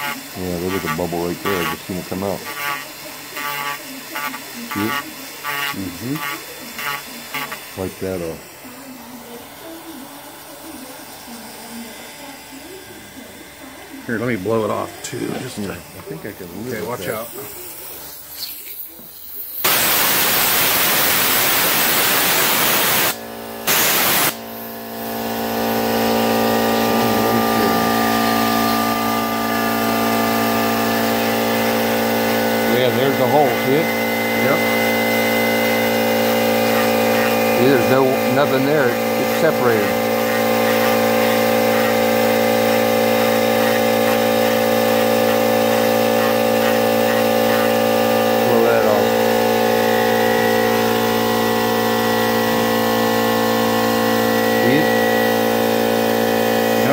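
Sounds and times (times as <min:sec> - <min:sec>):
rotary tool sanding whine: 0:00.0 - 0:20.0, 0:20.6 - 0:56.9
air blast hissing: 0:00.0 - 0:56.9.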